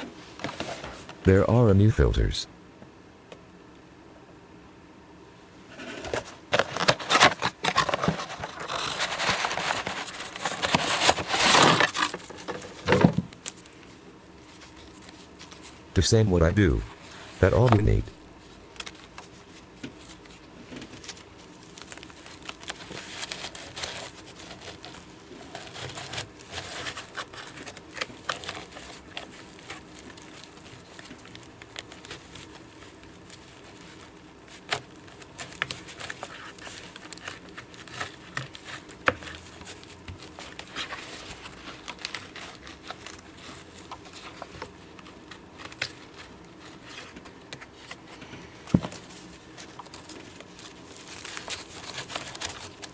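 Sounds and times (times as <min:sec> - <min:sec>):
rustling and crinkling: 0:00.0 - 0:01.2, 0:05.5 - 0:16.0, 0:16.8 - 0:52.9.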